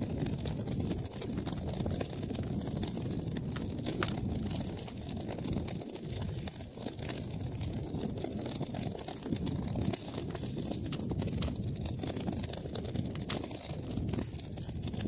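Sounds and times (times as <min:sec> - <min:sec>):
fire rumbling and crackling: 0:00.0 - 0:15.0.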